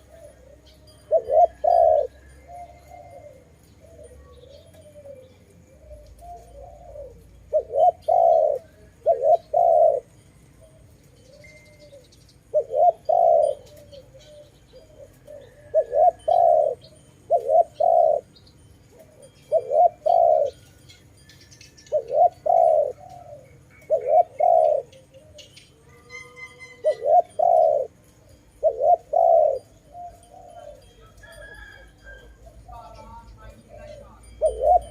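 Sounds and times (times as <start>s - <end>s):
dove cooing: 0.0s - 20.9s, 21.8s - 34.9s.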